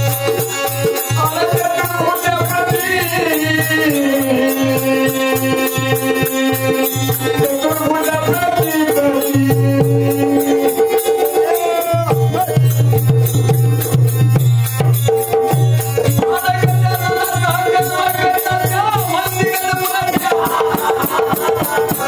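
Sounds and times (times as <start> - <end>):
percussion quick beat: 0.0 - 22.0.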